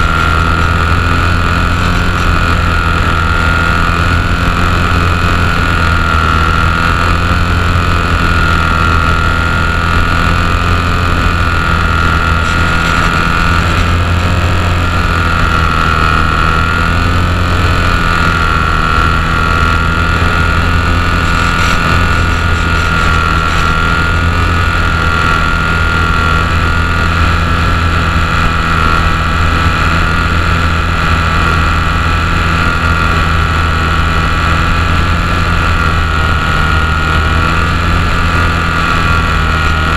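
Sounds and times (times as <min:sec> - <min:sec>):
electric motor and propeller whining: 0:00.0 - 0:39.9
wind noise on microphone: 0:00.0 - 0:39.9.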